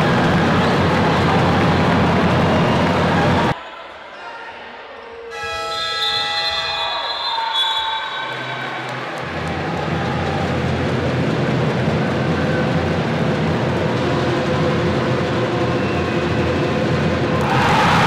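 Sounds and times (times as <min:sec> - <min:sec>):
crowd din echoing indoors: 0:00.0 - 0:18.0.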